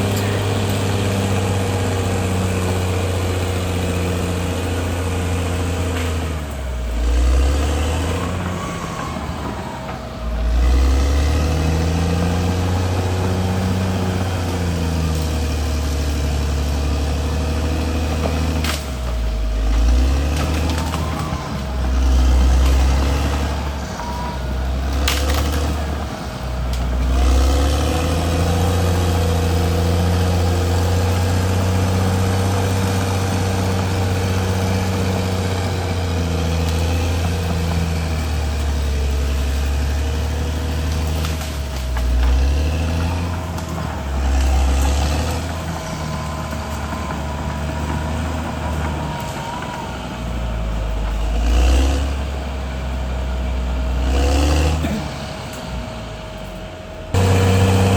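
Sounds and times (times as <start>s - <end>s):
bulldozer diesel engine: 0.0s - 57.9s.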